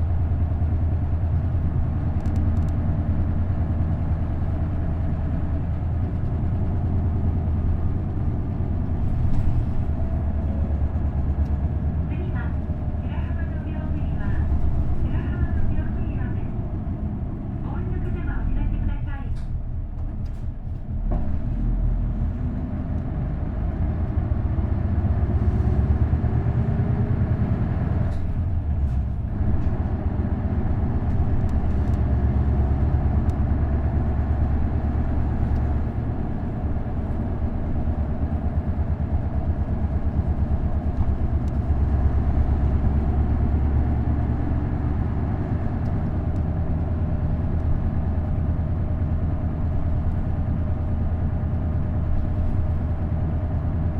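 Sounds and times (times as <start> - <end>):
bus engine drone: 0.0 - 53.9.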